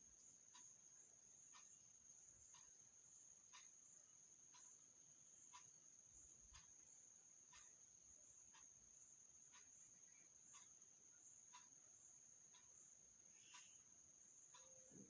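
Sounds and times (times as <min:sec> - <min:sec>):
faint high-pitched whine: 0:00.0 - 0:15.0
faint ticking: 0:00.0 - 0:15.0.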